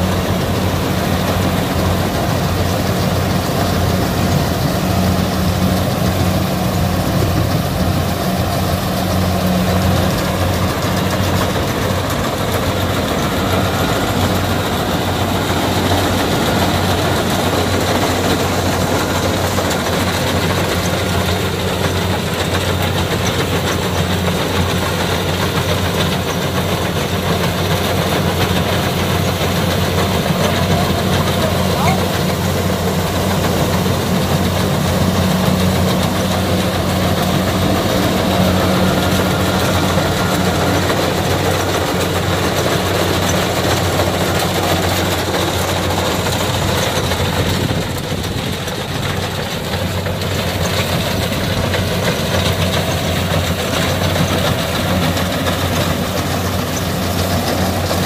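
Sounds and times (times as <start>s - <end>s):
diesel engine running: 0.0s - 58.0s
machinery noise: 0.0s - 58.0s.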